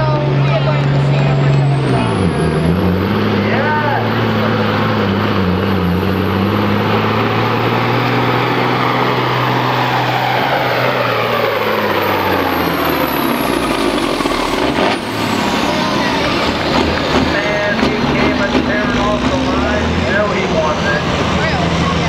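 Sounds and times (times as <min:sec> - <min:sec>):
diesel truck engine under load: 0:00.0 - 0:22.0.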